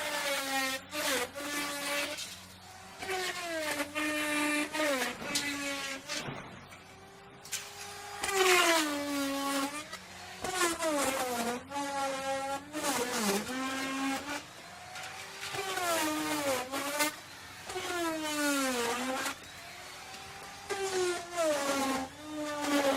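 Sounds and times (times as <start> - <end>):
wood router whining: 0.0 - 22.9.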